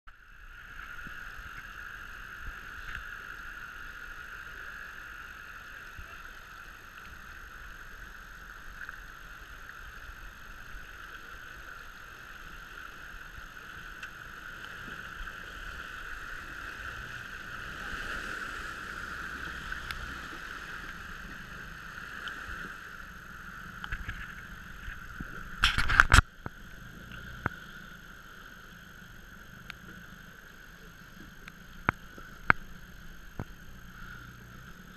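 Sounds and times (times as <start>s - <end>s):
creek water rushing over rocks: 0.1s - 34.9s.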